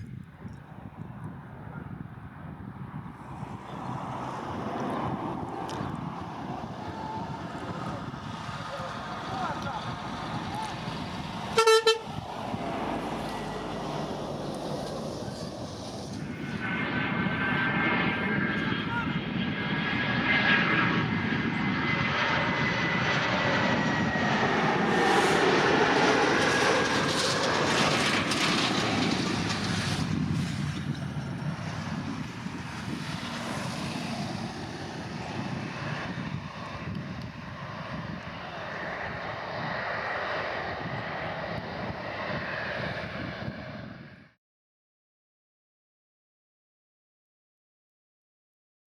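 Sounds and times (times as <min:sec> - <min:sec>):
jet engines of landing airliner: 0:00.0 - 0:44.4.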